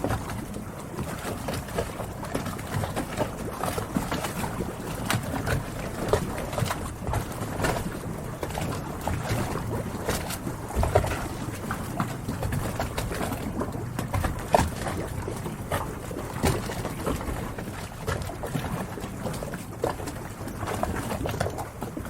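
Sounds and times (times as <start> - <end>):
water washing: 0.0 - 22.0.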